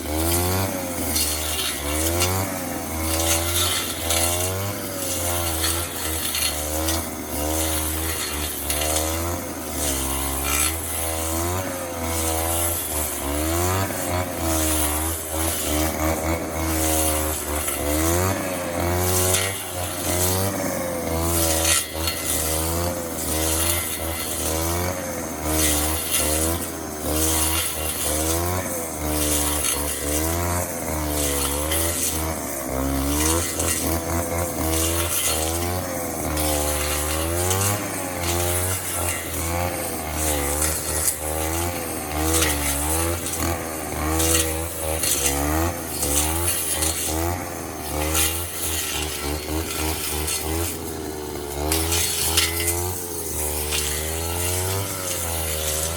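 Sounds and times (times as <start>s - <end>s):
grass cutter petrol engine running: 0.0s - 55.9s.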